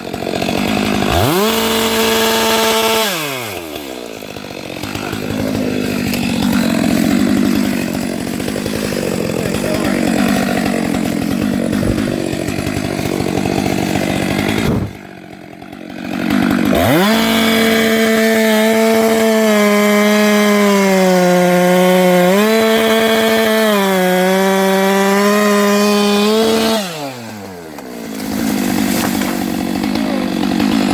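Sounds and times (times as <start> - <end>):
chainsaw engine revving: 0.0 - 30.9.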